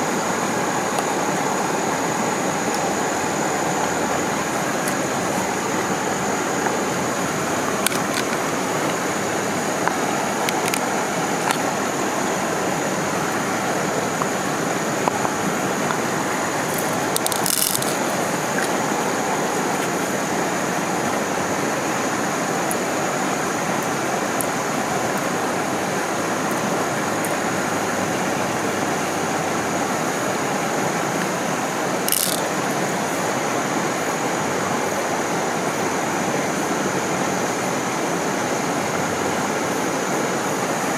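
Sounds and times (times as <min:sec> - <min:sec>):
thin high whine: 0:00.0 - 0:33.3
stream water rushing: 0:00.0 - 0:40.9.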